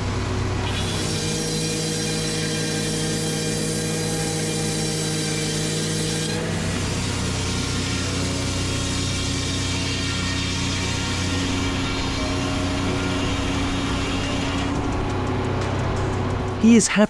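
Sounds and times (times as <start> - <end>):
sawmill machinery humming: 0.0 - 17.0.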